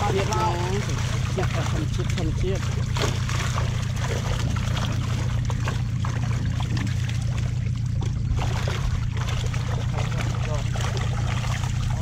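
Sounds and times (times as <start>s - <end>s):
low motor hum: 0.0s - 12.0s
water sloshing and splashing: 0.0s - 12.0s.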